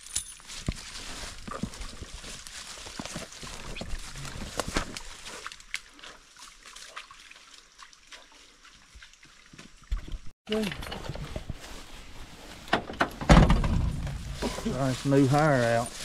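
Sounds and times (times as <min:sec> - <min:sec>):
leaves and twigs crackling: 0:00.0 - 0:09.8, 0:10.6 - 0:16.0
footsteps in undergrowth: 0:00.0 - 0:10.3, 0:11.1 - 0:16.0.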